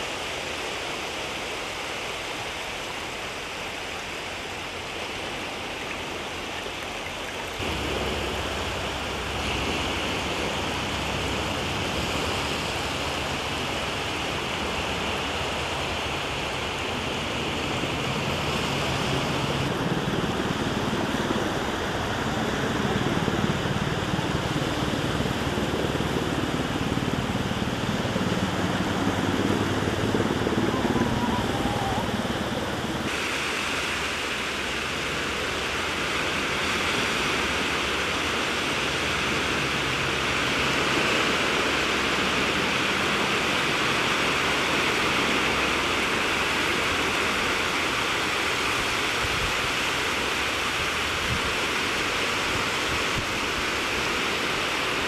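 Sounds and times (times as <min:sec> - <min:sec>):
shallow water washing over sand: 0:00.0 - 0:55.0.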